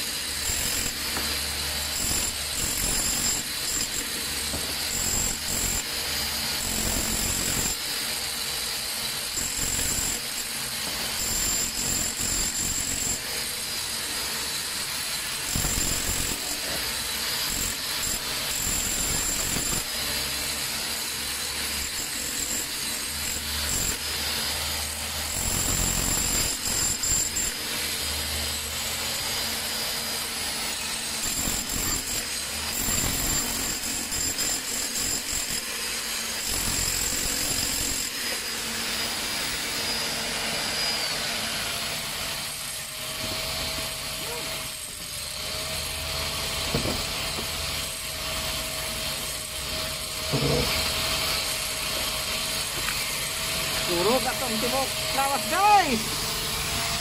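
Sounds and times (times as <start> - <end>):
demolition hammer chiselling concrete: 0.0 - 57.0.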